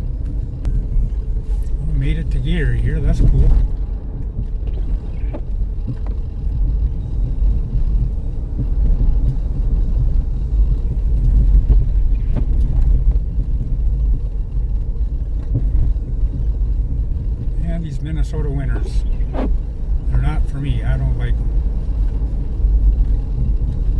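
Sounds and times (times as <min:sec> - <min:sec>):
car interior driving rumble: 0:00.0 - 0:23.9.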